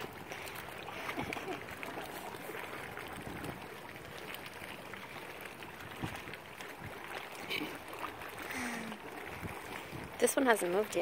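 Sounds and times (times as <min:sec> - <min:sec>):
sea water lapping: 0:00.0 - 0:11.0.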